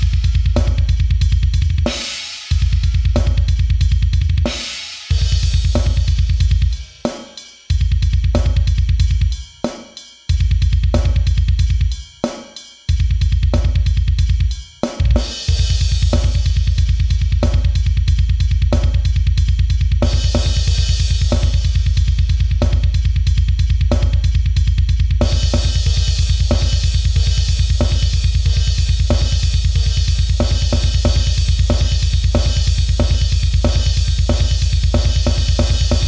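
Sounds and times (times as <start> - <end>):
fast double bass drum: 0.0 - 6.8, 7.7 - 9.4, 10.3 - 12.0, 12.9 - 36.0.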